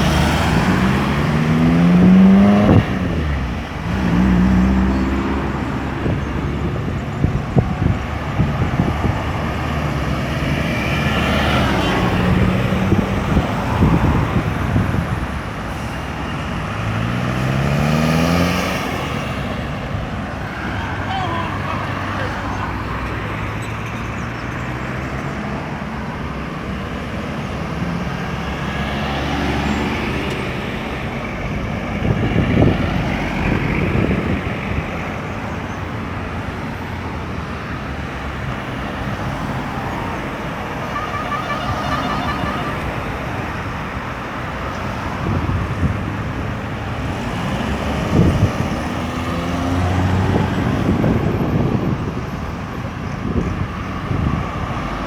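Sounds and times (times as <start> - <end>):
cars trucks and buses passing: 0.0 - 55.0.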